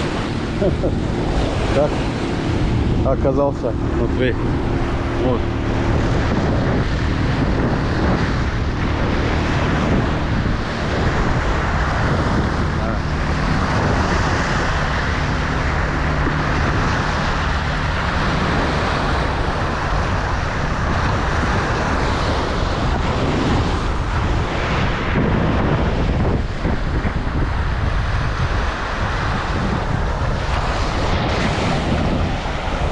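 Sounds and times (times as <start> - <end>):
sea waves breaking: 0.0 - 32.9
wind buffeting microphone: 0.0 - 32.9.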